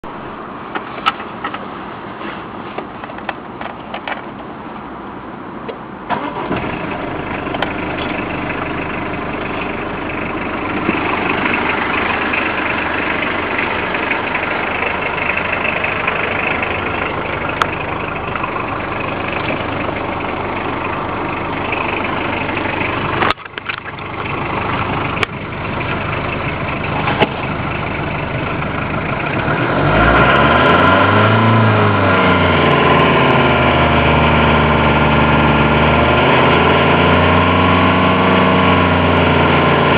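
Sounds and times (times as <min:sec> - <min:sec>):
car engine running: 0:06.1 - 0:39.9.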